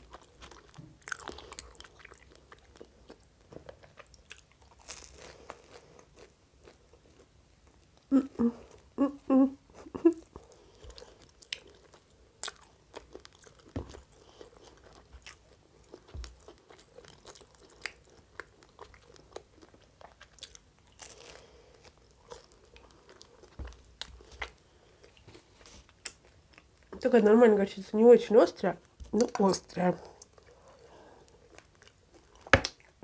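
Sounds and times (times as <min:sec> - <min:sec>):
person chewing crusty bread: 0:00.0 - 0:08.1, 0:10.1 - 0:27.0, 0:30.0 - 0:33.0.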